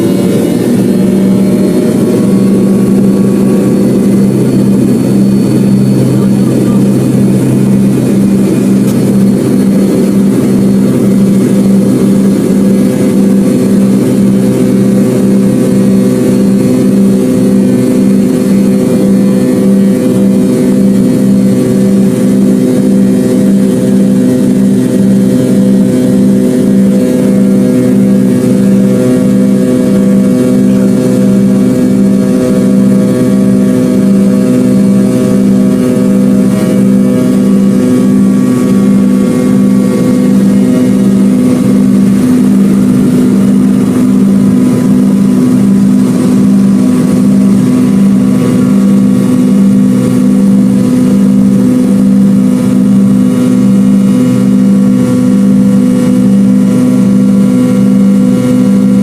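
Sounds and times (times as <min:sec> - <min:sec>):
higher engine tone: 0:00.0 - 0:59.0
jet engines droning: 0:00.0 - 0:59.0.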